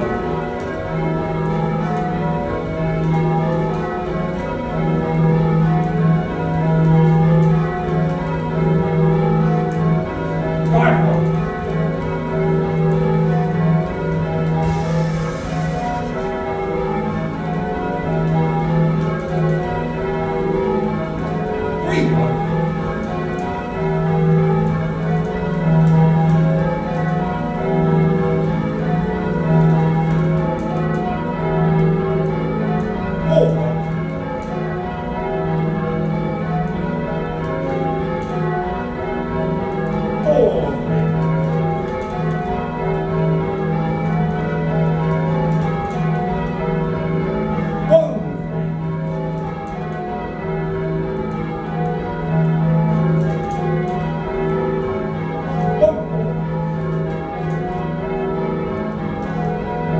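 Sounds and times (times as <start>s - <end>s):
church bells ringing in changes: 0.0s - 59.9s.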